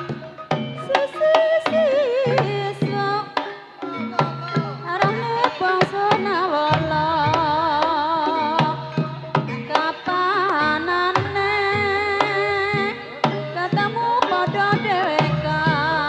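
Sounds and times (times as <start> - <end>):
gamelan accompaniment: 0.0 - 16.0
hand drum strokes: 0.0 - 16.0
woman singing with vibrato: 0.0 - 16.0.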